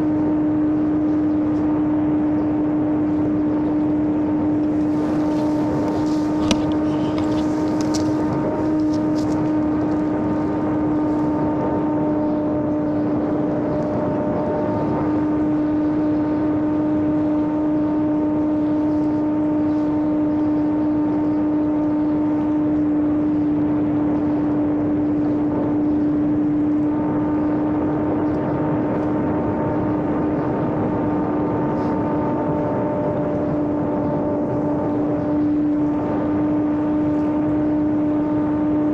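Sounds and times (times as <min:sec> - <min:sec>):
model airplane motor drone: 0:00.0 - 0:38.9.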